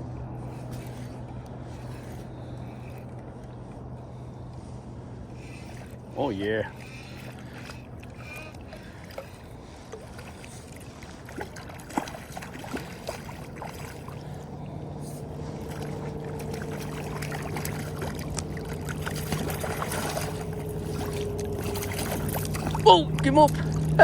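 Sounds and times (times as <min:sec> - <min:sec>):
low hum with higher overtone: 0:00.0 - 0:24.0.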